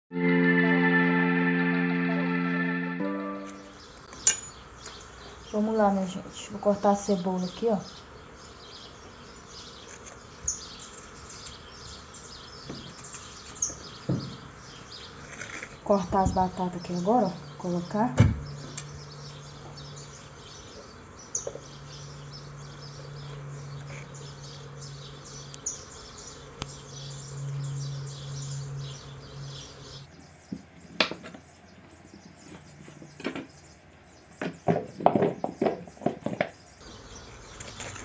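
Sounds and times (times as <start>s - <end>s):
birds chirping: 0.1s - 38.0s.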